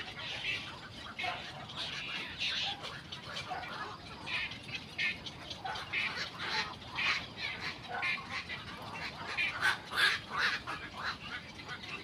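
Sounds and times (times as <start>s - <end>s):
herons calling: 0.0s - 12.0s.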